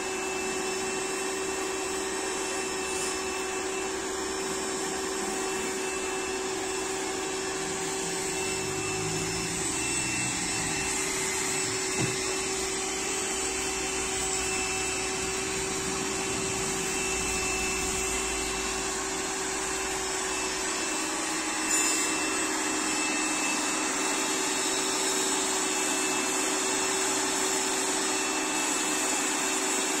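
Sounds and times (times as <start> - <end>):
pressure washer motor humming: 0.0 - 30.0.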